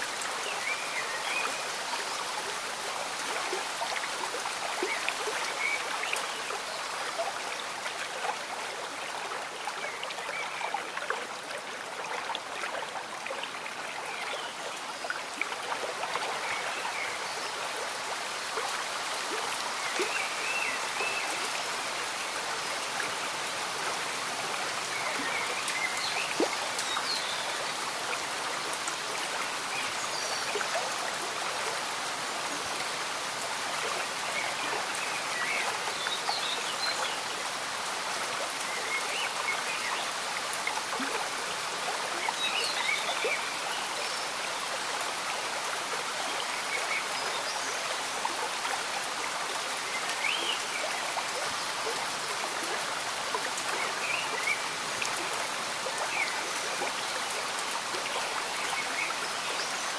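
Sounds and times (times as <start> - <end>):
steady rain falling: 0.0 - 59.9
stream bubbling: 0.0 - 59.9.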